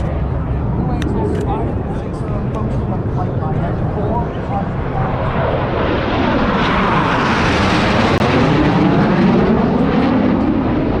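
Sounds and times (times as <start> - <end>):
jet passing overhead: 0.0 - 11.0.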